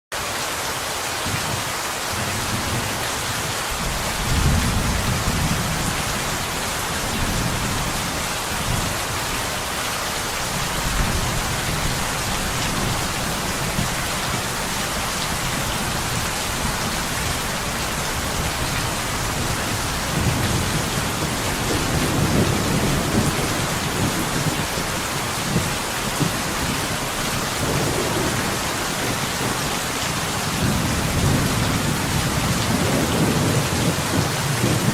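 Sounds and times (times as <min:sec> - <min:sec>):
rain on window glass: 0:02.3 - 0:34.9
thunder rumbling: 0:03.7 - 0:34.9.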